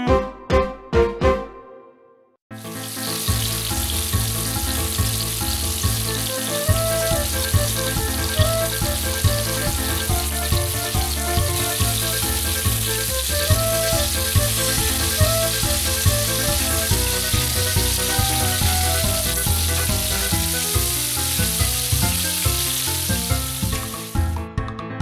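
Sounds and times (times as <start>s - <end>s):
background music with a beat: 0.0s - 1.8s, 3.8s - 25.0s
fish sizzling in hot oil: 2.5s - 24.4s.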